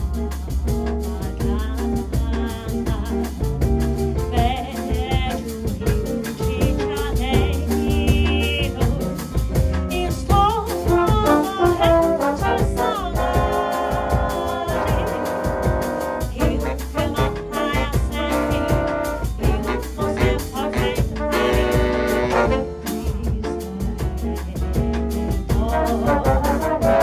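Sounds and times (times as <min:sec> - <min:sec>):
jazz band playing samba: 0:00.0 - 0:27.0.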